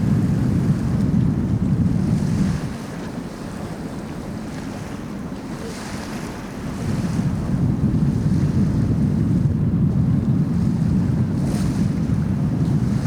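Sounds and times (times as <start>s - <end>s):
boat wash on water: 0.0s - 13.0s
wind buffeting microphone: 0.0s - 13.0s.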